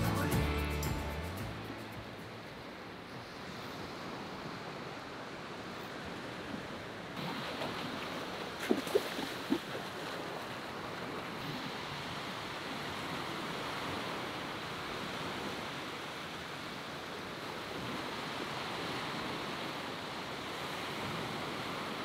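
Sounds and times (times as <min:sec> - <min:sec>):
small waves breaking: 0:02.4 - 0:22.0.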